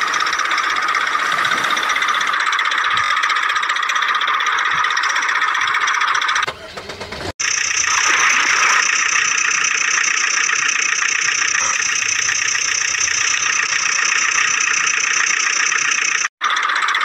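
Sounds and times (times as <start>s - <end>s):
high-pitched toy engine rattle: 0.0s - 17.0s.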